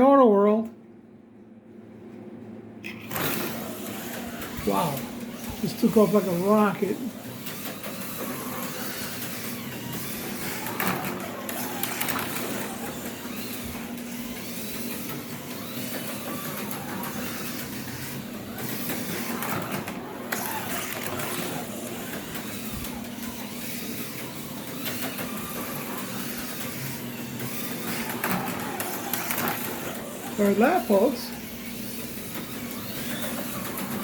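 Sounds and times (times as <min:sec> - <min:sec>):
slot car motor whirring: 0:02.8 - 0:34.0.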